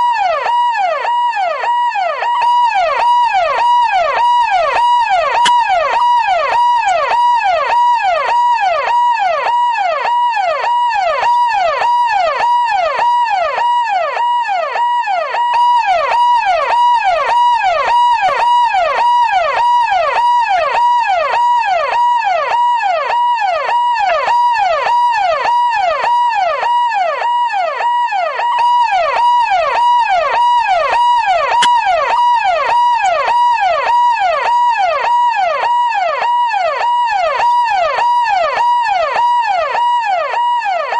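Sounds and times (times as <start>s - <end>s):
siren ringtone: 0.0s - 40.9s.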